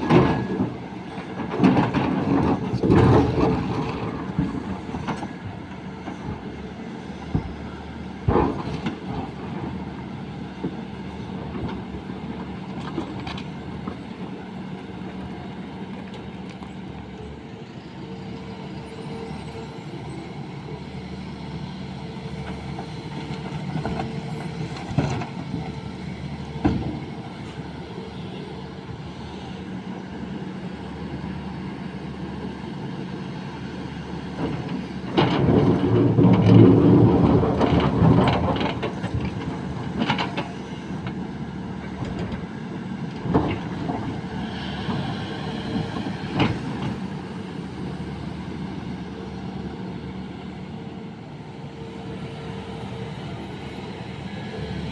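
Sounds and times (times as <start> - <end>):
excavator engine humming: 0.0 - 54.9.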